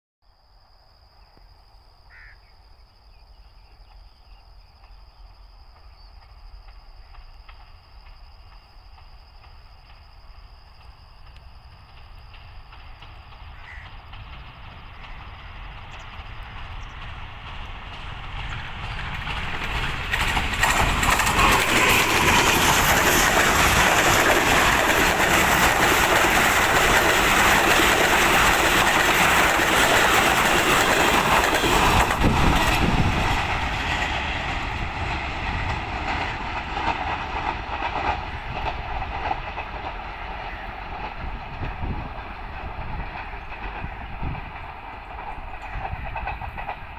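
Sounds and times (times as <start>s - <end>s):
diesel locomotive passing: 2.1s - 46.9s
rattling wheel and rail noise: 3.9s - 46.9s.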